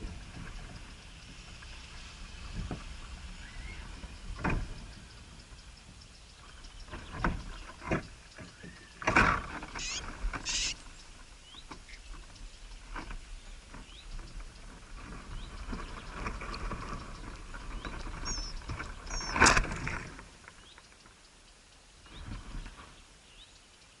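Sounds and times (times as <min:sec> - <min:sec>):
small birds chirping: 0:00.0 - 0:19.7, 0:20.3 - 0:24.0.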